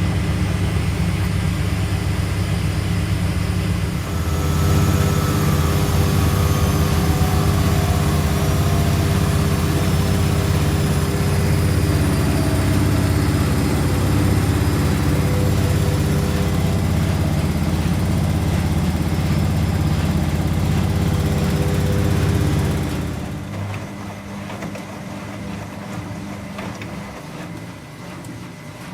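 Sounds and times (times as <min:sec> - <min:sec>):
washing machine spinning: 0:00.0 - 0:28.9.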